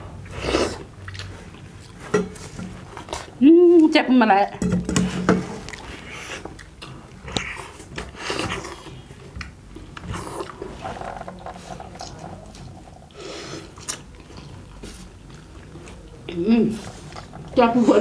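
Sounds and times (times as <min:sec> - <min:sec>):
chewing and wet mouth noises: 0:00.1 - 0:03.4, 0:05.6 - 0:18.0.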